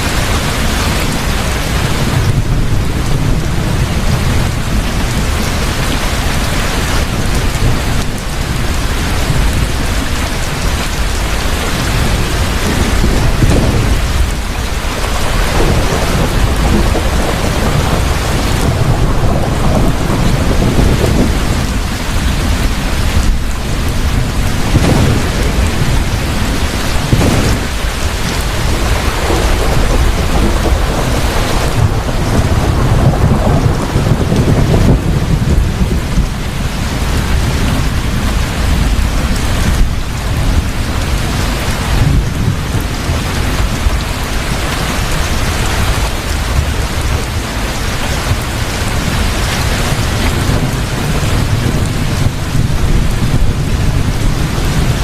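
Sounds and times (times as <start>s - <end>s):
heavy rain pouring: 0.0s - 55.0s
rolling thunder: 0.0s - 55.0s.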